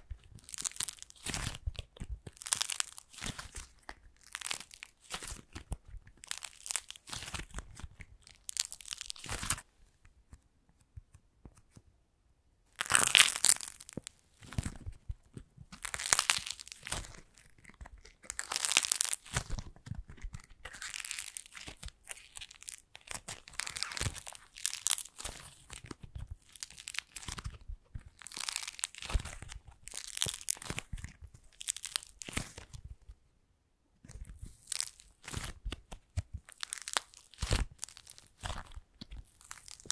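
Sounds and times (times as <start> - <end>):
modeling clay cracking and popping: 0.0 - 33.2, 33.9 - 39.9.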